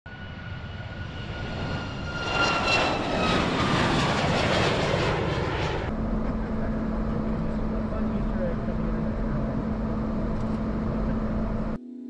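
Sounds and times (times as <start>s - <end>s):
jet engines at takeoff: 0.1s - 11.8s.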